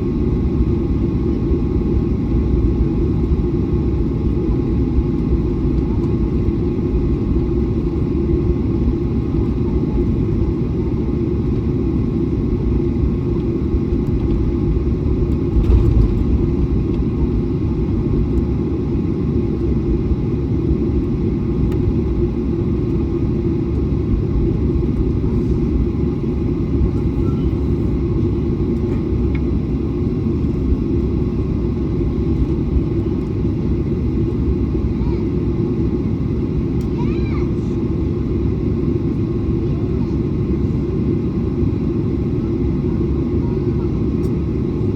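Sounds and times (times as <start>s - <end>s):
airliner engines rumbling: 0.0s - 44.9s.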